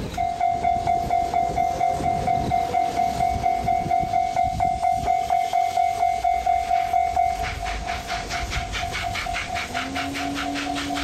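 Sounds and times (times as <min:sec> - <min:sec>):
rhythmic hissing: 0:00.0 - 0:11.0.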